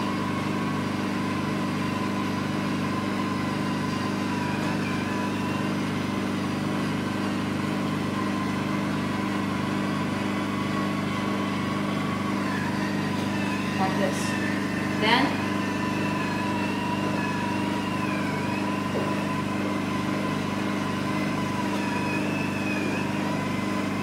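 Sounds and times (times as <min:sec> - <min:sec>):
high whine: 0:00.0 - 0:24.0
vacuum machine humming: 0:00.0 - 0:24.0.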